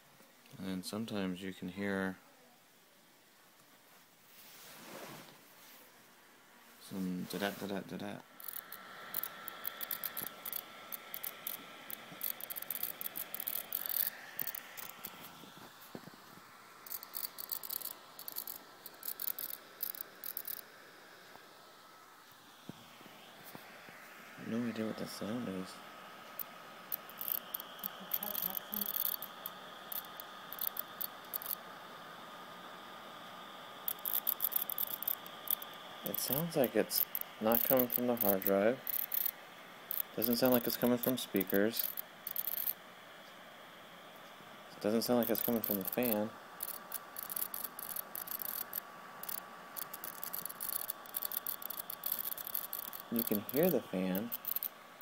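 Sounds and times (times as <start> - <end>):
faint whine: 0.0 - 55.0
laptop cooling fan: 0.0 - 55.0
crackling and clicking static: 6.8 - 55.0.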